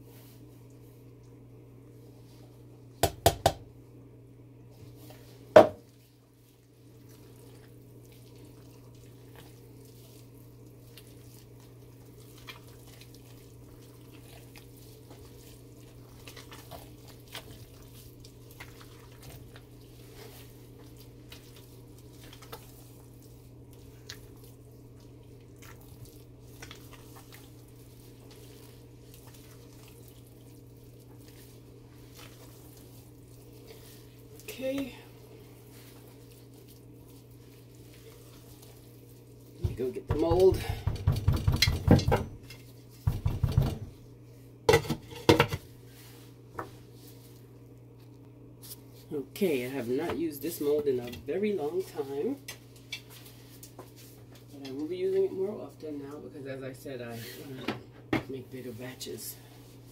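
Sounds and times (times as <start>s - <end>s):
spatula squelching in soap paste: 4.6s - 41.5s, 45.6s - 57.6s, 58.3s - 59.9s.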